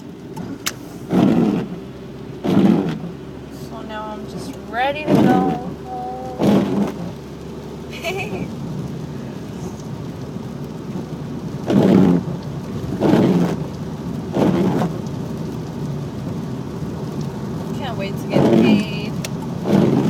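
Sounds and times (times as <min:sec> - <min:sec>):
rain and wet road noise: 0:00.0 - 0:20.0
windshield wipers sweeping: 0:00.0 - 0:20.0.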